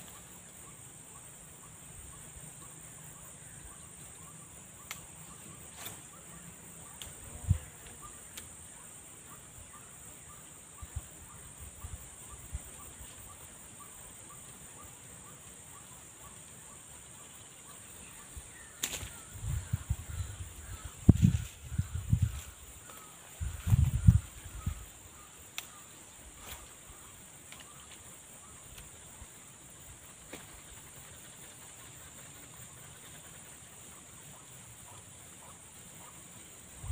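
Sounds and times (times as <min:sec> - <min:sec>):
high-pitched hiss: 0:00.0 - 0:36.9.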